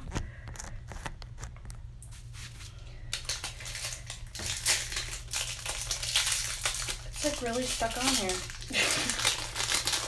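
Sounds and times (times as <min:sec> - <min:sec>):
low steady hum: 0:00.0 - 0:10.0
packaging crinkling and rustling: 0:00.0 - 0:10.0.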